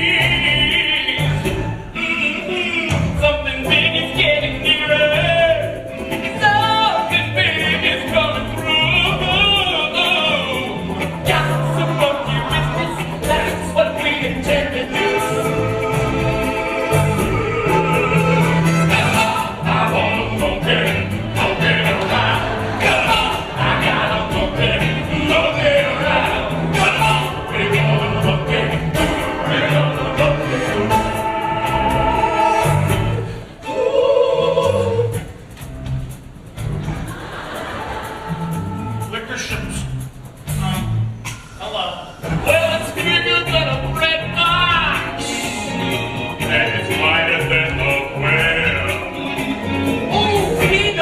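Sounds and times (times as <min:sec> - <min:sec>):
voices singing: 0:00.0 - 0:35.6, 0:36.9 - 0:51.0
pit orchestra: 0:00.0 - 0:51.0.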